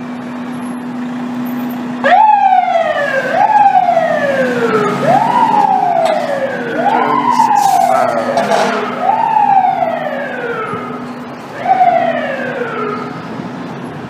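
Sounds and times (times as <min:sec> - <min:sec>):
fire engine siren: 0:00.0 - 0:14.0
low steady truck hum: 0:00.0 - 0:14.0.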